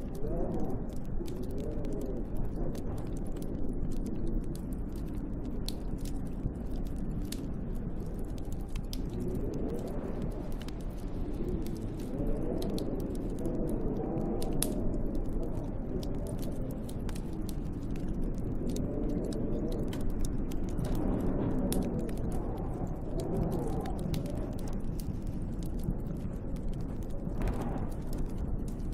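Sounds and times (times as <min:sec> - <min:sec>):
storm wind howling in gusts: 0:00.0 - 0:28.9
wood fire crackling and popping: 0:00.0 - 0:28.9.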